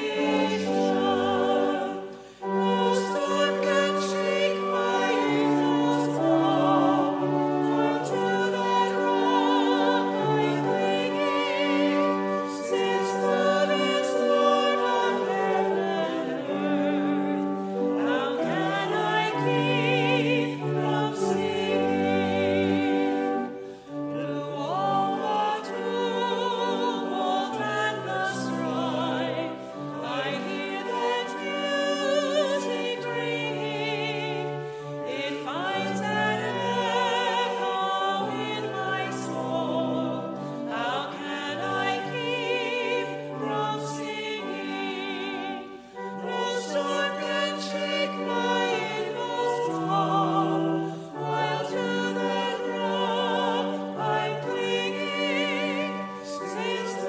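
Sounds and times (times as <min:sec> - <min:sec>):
group of voices singing a hymn: 0:00.0 - 0:57.0
pipe organ: 0:00.0 - 0:57.0.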